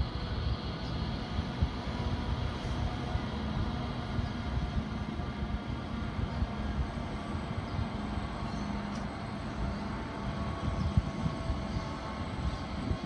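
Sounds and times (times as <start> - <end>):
distant diesel locomotive drone: 0.0 - 13.0.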